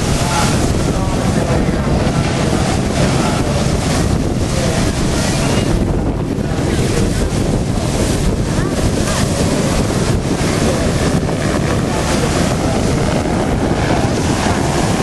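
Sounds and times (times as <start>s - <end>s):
sea noise: 0.0s - 15.0s
wind buffeting microphone: 0.0s - 15.0s.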